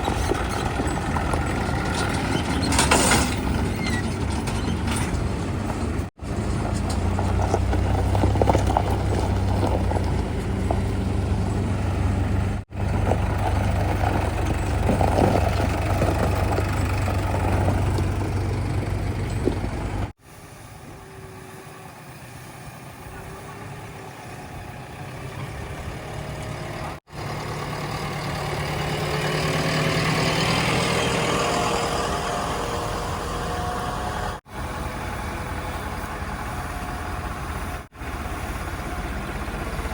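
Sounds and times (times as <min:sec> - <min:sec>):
engine clatter: 0:00.0 - 0:20.2, 0:22.5 - 0:39.9
heavy diesel engines running: 0:00.0 - 0:39.9.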